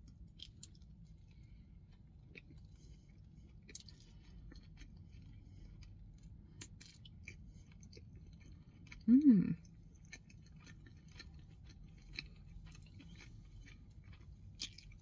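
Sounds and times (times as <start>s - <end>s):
chewing crunchy food: 0.0s - 15.0s
low steady rumble: 0.0s - 15.0s.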